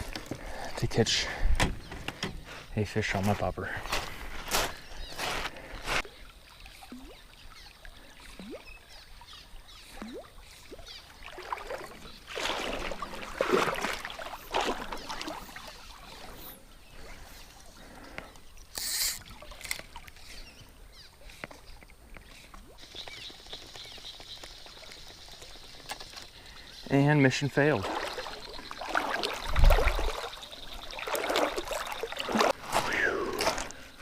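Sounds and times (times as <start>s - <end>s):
water splashing around kayak: 0.0s - 2.6s, 3.9s - 34.0s.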